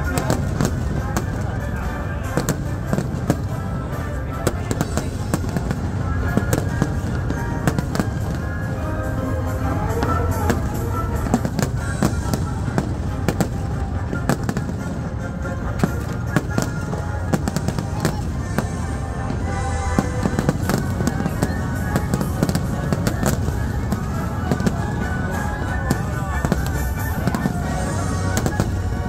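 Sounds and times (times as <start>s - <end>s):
fireworks bangs and crackles: 0.0s - 29.0s
orchestral music: 0.0s - 29.0s.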